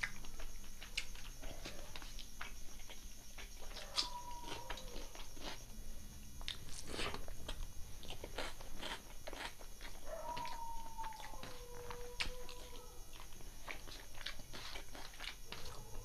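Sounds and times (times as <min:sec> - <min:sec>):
man chewing with mouth smacks: 0:00.0 - 0:05.7, 0:06.4 - 0:16.0.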